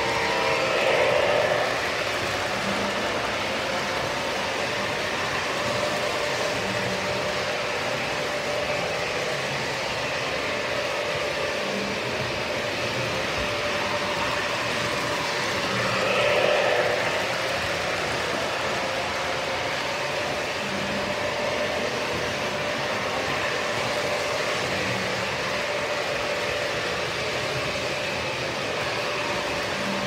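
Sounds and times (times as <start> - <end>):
model train motors whining: 0.0 - 30.0
wheels rolling on rails: 0.0 - 30.0.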